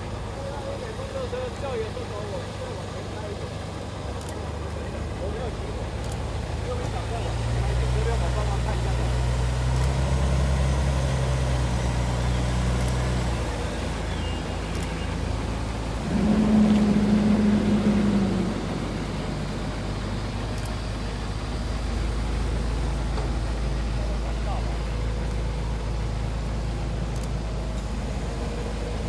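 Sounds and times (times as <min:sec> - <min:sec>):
engine running with low hum: 0:00.0 - 0:29.0.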